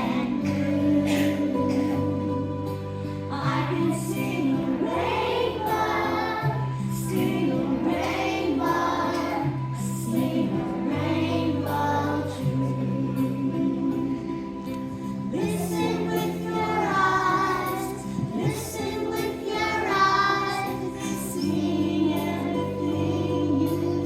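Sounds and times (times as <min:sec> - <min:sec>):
children singing: 0:00.0 - 0:14.1, 0:15.3 - 0:24.0.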